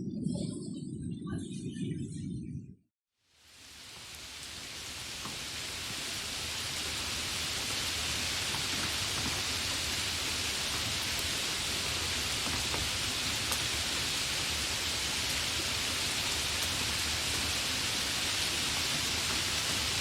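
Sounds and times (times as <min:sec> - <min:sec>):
steady rain: 0:03.2 - 0:20.0
raindrops ticking on surface: 0:03.4 - 0:20.0.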